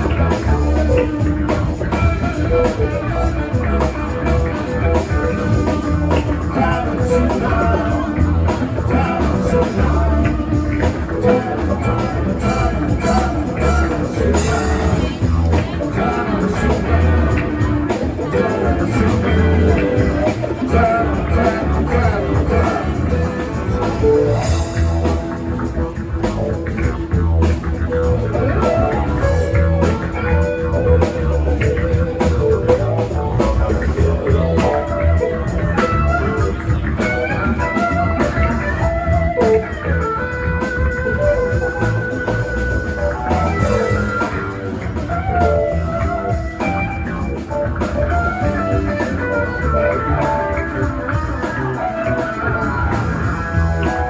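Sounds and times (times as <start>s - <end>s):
bass guitar: 0.0s - 54.0s
drum kit: 0.0s - 54.0s
guitar melody: 0.0s - 54.0s.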